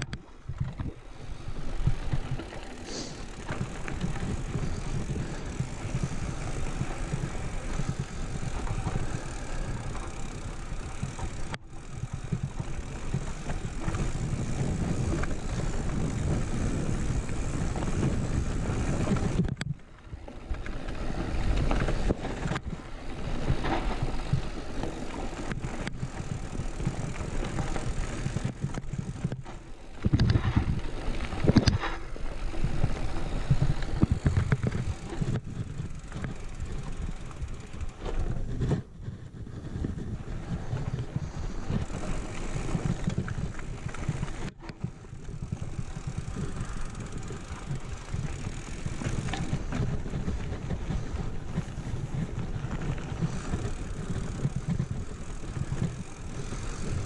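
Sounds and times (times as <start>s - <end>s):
bike frame rattling: 0.0s - 57.0s
bike tyres crunching on gravel: 0.0s - 57.0s
wind buffeting microphone: 3.4s - 11.2s, 11.8s - 57.0s.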